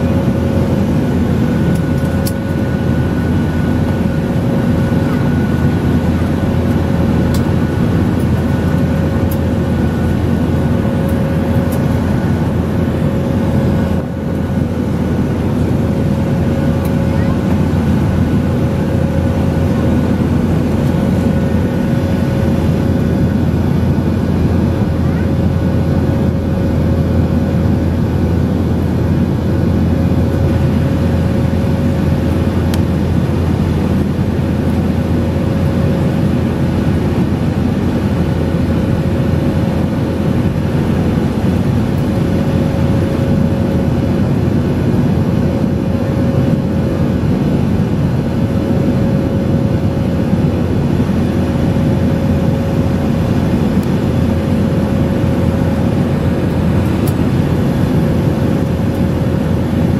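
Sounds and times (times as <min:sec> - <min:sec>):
jet engines droning: 0:00.0 - 0:59.9.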